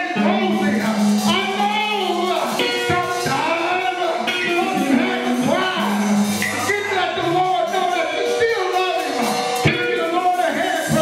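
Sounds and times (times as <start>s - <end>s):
person singing: 0.0s - 11.0s
sustained instrumental chords: 0.0s - 11.0s.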